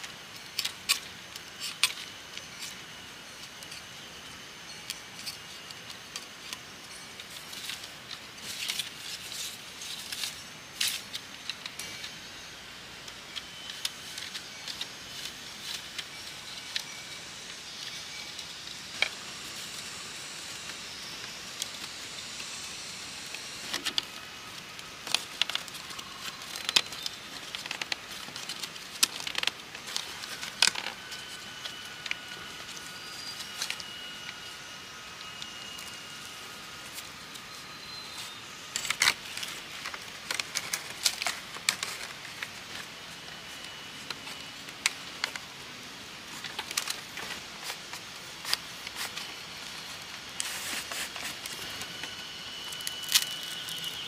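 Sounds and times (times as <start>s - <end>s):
bamboo strips clicking and scraping: 0.0s - 4.1s, 4.8s - 54.0s.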